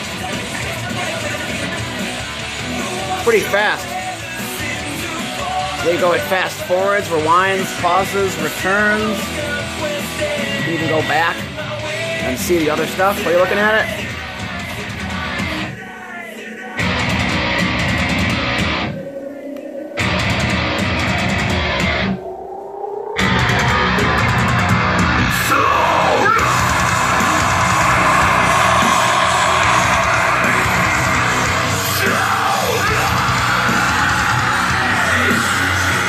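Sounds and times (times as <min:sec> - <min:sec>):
rock music with guitar and vocals: 0:00.0 - 0:36.0.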